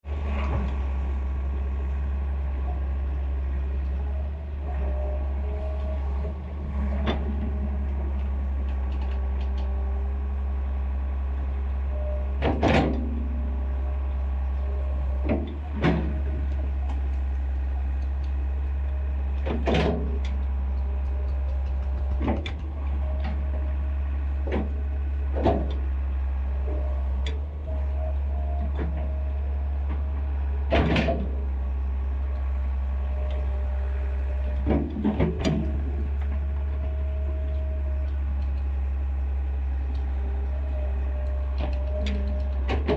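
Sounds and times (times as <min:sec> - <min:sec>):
excavator engine droning: 0:00.0 - 0:42.9.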